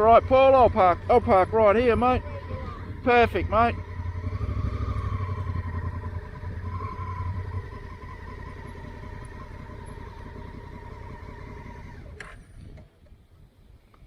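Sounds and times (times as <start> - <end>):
motorcycle engine idling: 0.0 - 13.1.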